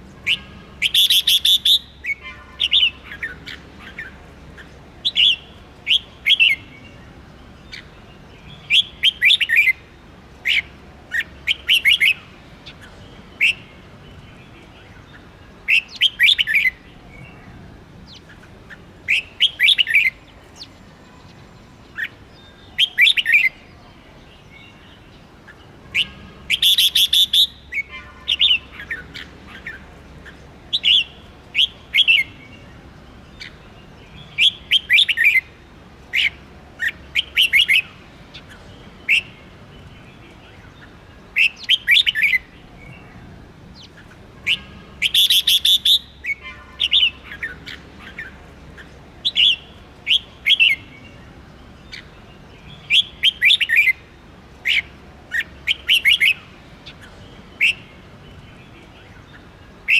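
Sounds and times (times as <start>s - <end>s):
bulbul chirping song: 0.0s - 59.9s.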